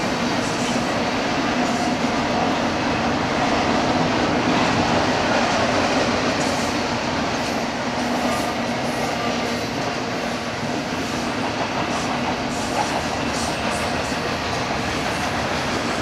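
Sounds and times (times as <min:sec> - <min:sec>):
freight train wheels on track: 0:00.0 - 0:16.0.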